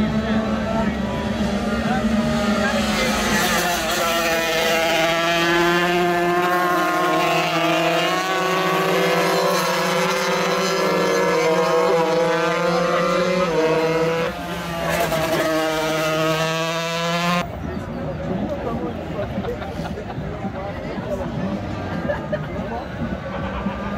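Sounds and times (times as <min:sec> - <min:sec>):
racing motorcycle engines revving: 0:00.0 - 0:23.9.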